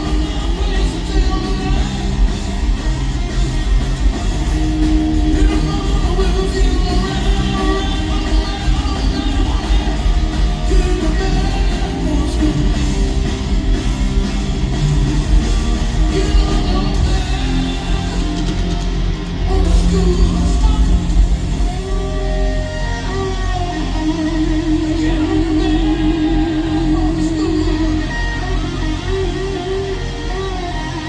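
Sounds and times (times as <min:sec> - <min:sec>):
bass: 0:00.0 - 0:31.0
drums: 0:00.0 - 0:31.0
electric guitar: 0:00.0 - 0:31.0.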